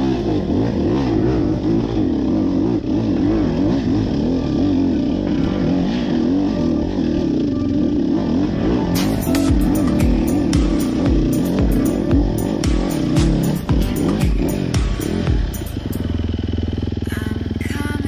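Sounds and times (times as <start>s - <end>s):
chainsaw engine running: 0.0s - 18.0s.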